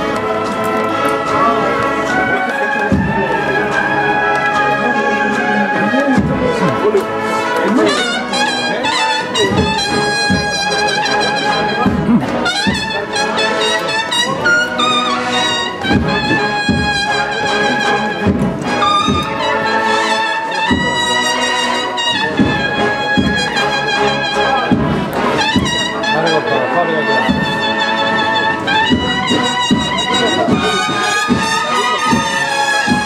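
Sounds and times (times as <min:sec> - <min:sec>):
drum strokes: 0:00.0 - 0:26.2, 0:27.2 - 0:33.0
brass band playing a march: 0:00.0 - 0:33.0.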